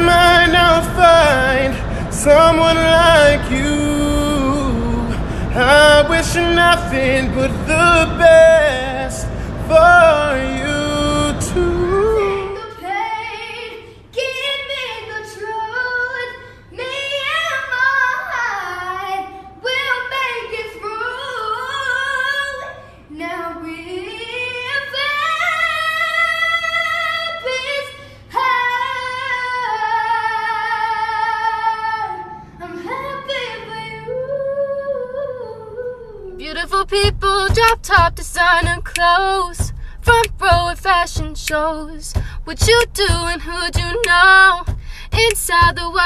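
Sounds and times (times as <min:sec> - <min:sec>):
boy singing: 0:00.0 - 0:46.0.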